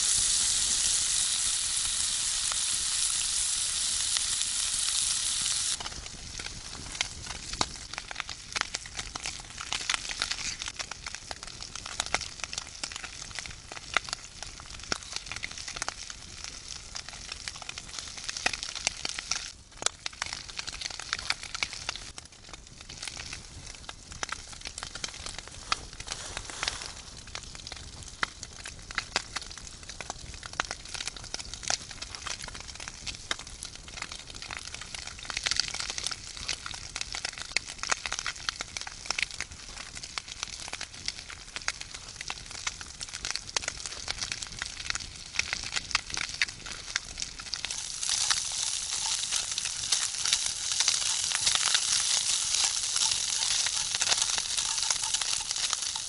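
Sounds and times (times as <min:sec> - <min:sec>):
meat sizzling in a frying pan: 0:00.0 - 0:26.0, 0:27.0 - 0:56.0
campfire crackling: 0:00.0 - 0:56.0.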